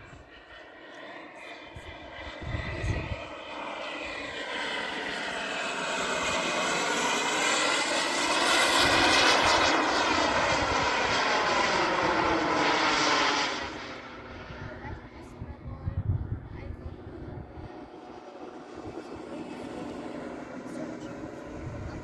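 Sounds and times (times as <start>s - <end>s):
model aircraft motor flying past: 0.0s - 22.0s.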